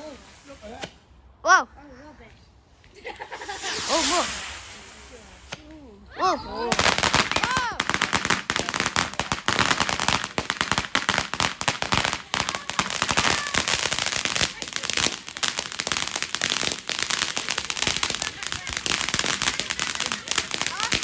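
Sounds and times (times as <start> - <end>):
firework crackling and popping: 0.0 - 1.2, 2.8 - 5.8, 6.7 - 21.0.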